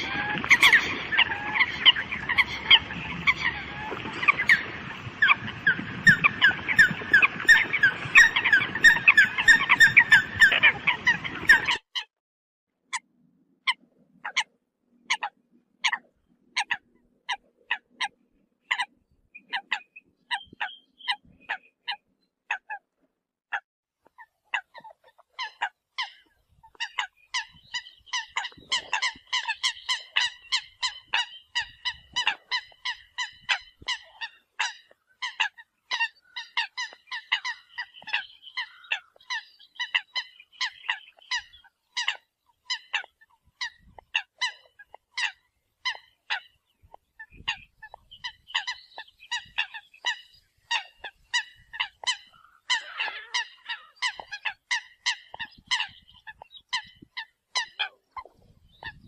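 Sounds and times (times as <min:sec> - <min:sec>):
birds calling sharply: 0:00.0 - 0:11.8, 0:18.6 - 0:22.7, 0:24.6 - 0:59.0.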